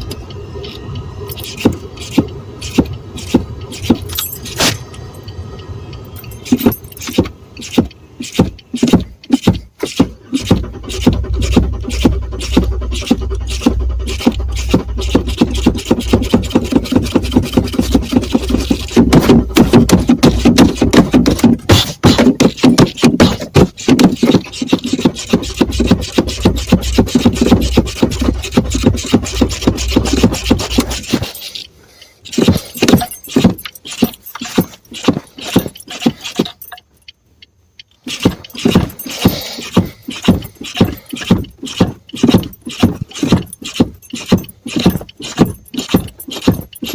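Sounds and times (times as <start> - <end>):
car engine cranking on starter: 0.0 - 37.2, 37.8 - 46.9.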